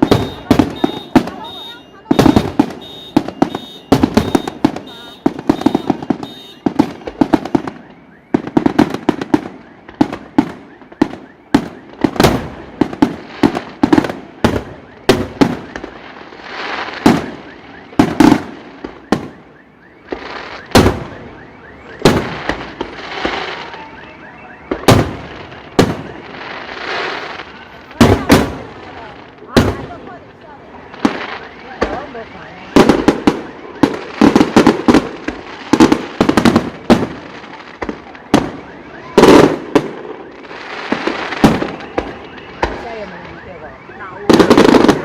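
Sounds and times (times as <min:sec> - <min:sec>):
fireworks booming: 0:00.0 - 0:24.0, 0:24.6 - 0:45.0
fireworks crackling: 0:00.0 - 0:45.0.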